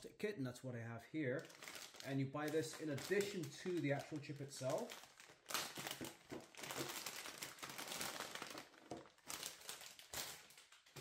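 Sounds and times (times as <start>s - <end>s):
plastic pouch crinkling: 1.4s - 11.0s.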